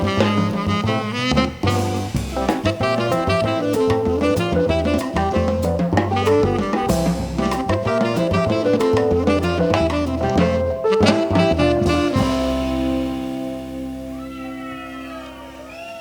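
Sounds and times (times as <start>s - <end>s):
jazz band playing: 0.0s - 15.9s.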